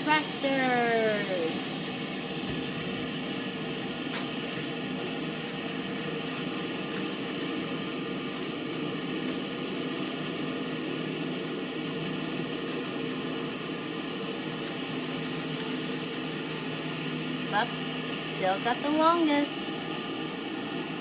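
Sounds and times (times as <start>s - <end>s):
farm machinery engines droning: 0.0s - 21.0s.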